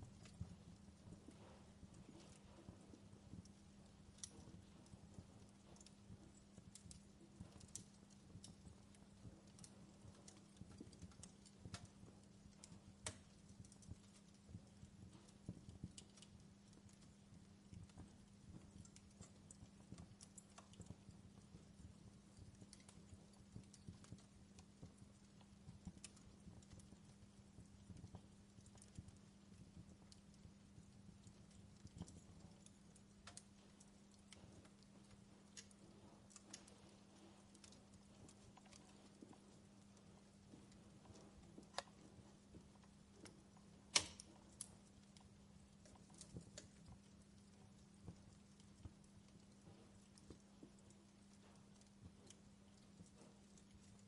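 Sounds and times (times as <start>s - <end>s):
low steady hum: 0.0s - 54.0s
wood fire crackling: 0.0s - 54.0s.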